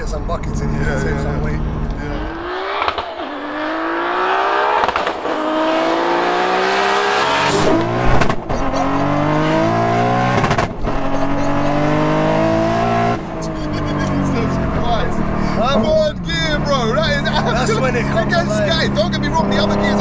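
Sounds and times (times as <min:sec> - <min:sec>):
car engine accelerating hard: 0:00.2 - 0:20.0.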